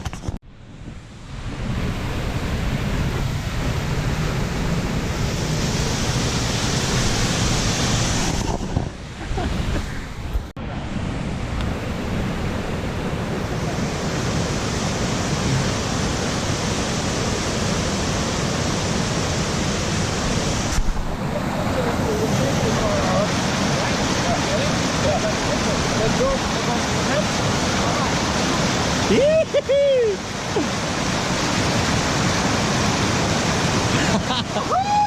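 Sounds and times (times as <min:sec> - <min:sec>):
waterfall rushing: 0:01.6 - 0:09.2, 0:10.0 - 0:35.0.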